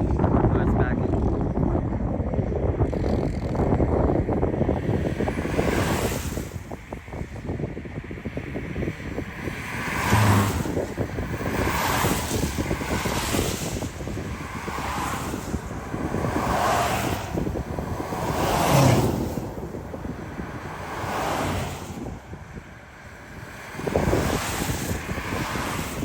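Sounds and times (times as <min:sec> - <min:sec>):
gusty wind buffeting microphone: 0:00.0 - 0:26.0.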